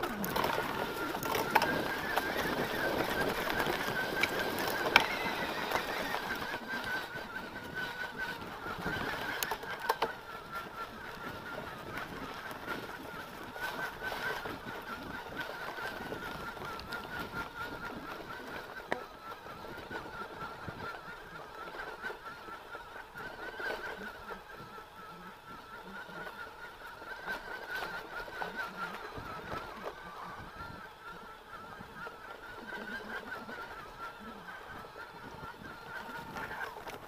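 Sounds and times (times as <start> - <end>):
bike rattling on dirt trail: 0.0 - 37.0.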